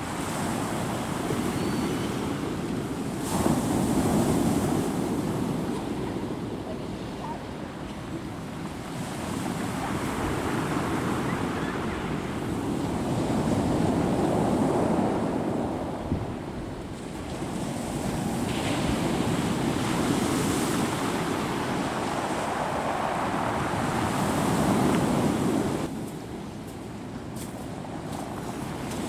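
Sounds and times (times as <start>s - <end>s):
sea waves breaking: 0.0s - 16.1s, 16.9s - 26.0s.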